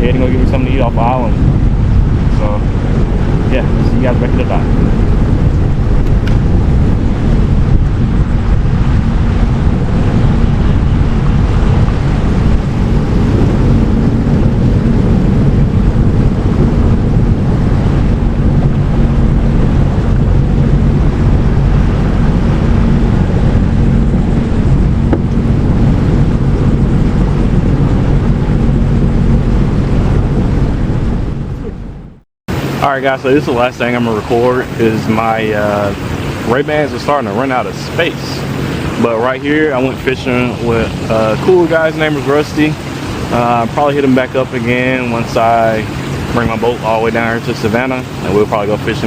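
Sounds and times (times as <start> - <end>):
jet ski engine droning: 0.0 - 49.0
water rushing: 0.0 - 49.0
wind buffeting microphone: 0.0 - 49.0.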